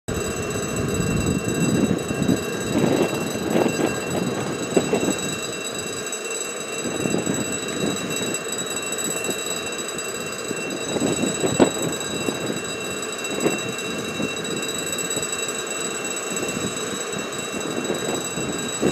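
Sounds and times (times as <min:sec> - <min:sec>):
train rumbling along track: 0:00.1 - 0:15.4, 0:16.0 - 0:18.9
high whine: 0:00.1 - 0:18.9
wheels knocking: 0:00.1 - 0:18.9.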